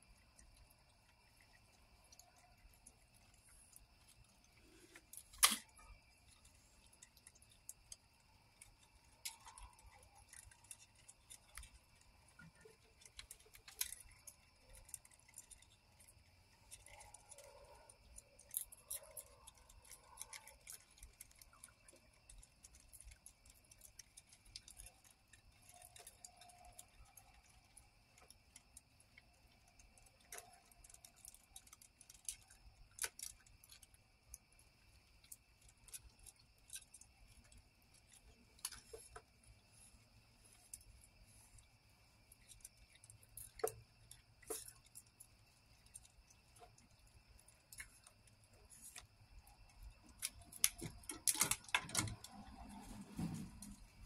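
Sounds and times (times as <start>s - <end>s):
raccoons feeding clicks and taps: 0.0s - 54.0s.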